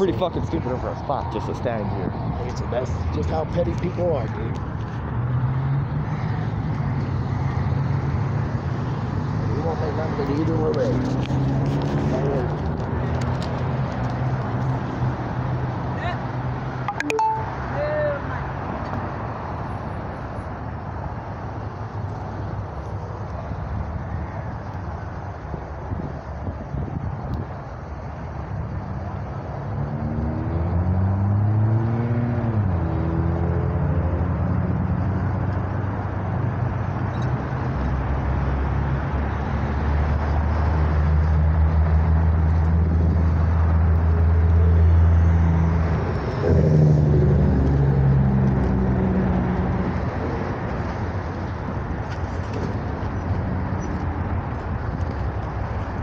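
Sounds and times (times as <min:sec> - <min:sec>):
car engines idling and accelerating: 0:00.0 - 0:56.0
rush of traffic: 0:00.0 - 0:56.0.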